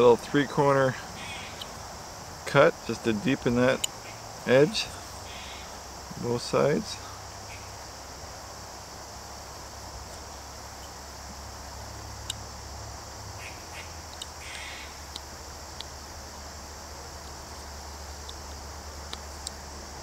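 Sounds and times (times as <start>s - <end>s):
crickets and insects chirping: 0.0s - 20.0s.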